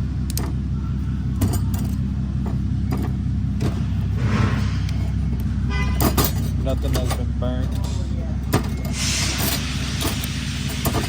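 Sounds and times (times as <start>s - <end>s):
low machine hum: 0.0s - 11.0s
metal plates clinking: 1.3s - 11.0s.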